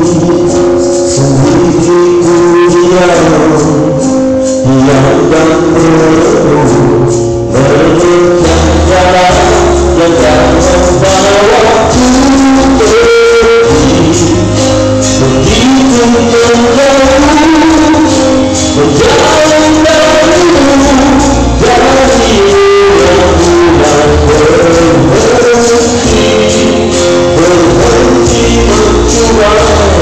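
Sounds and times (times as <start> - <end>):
backing music with steady beat: 0.0 - 30.0
man singing into a microphone: 0.0 - 30.0.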